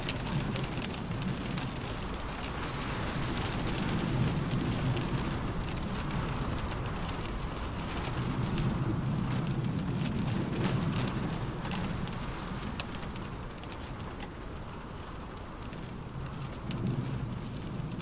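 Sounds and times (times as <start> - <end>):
low rumbling wind: 0.0 - 18.0
rain on a car roof: 0.0 - 18.0.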